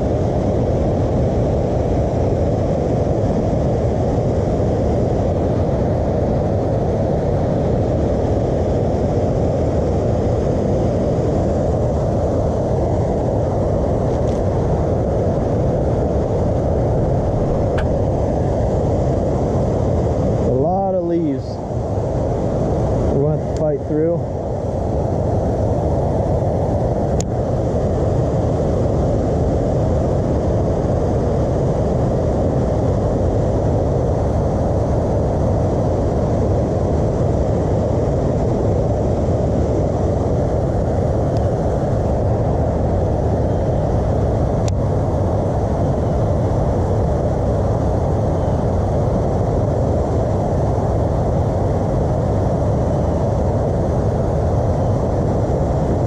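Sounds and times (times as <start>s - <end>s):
low rushing noise: 0.0s - 56.0s.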